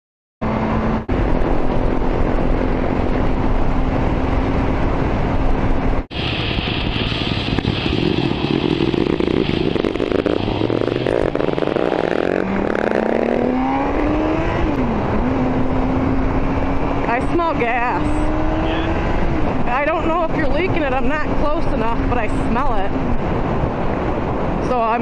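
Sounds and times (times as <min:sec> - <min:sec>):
motorcycle engine accelerating: 0:00.4 - 0:24.4
wind and road noise: 0:00.4 - 0:25.0.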